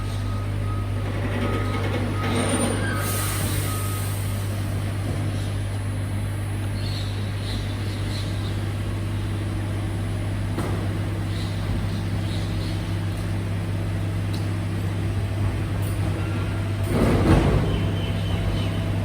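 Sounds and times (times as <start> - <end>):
garbage truck engine humming: 0.0 - 19.0.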